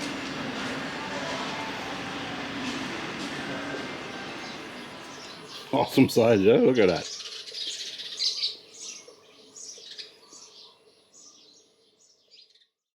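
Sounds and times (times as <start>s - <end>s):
bird chirping: 0.0s - 12.8s.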